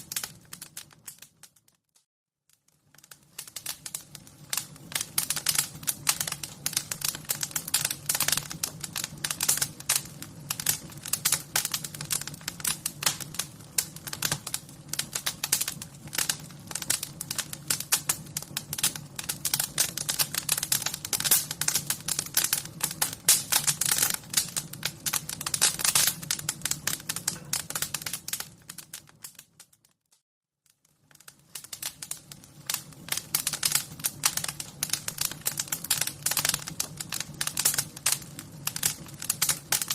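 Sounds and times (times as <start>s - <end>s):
wood fire crackling: 0.0s - 1.8s, 2.5s - 30.0s, 30.6s - 39.9s.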